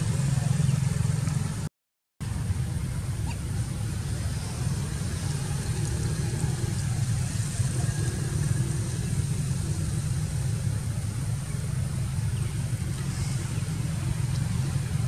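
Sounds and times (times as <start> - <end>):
faint distant sounds: 0.0 - 15.0
low outdoor rumble: 0.0 - 15.0.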